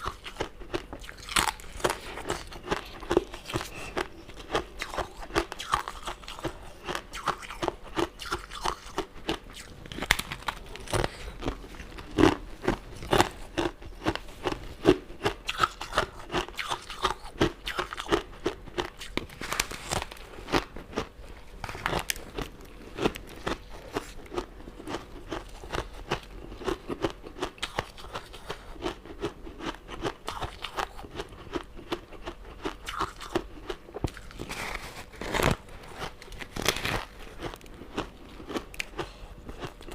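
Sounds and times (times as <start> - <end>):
crunchy chewing of sweets: 0.0 - 39.9.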